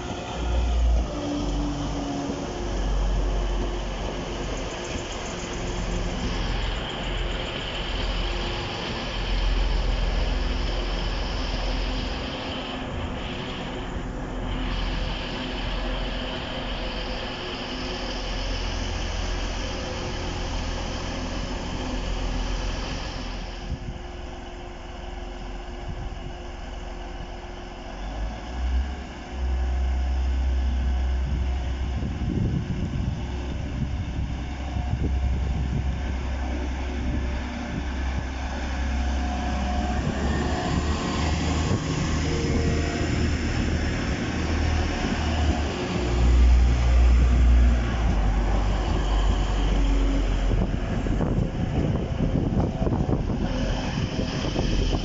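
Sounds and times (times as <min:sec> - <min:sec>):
diesel train running: 0:00.0 - 0:55.0
vehicle engine rumbling: 0:00.0 - 0:55.0.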